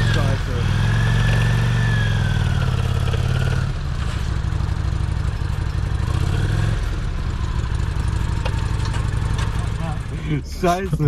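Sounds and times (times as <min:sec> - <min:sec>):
vehicle engine running at low speed: 0:00.0 - 0:11.0.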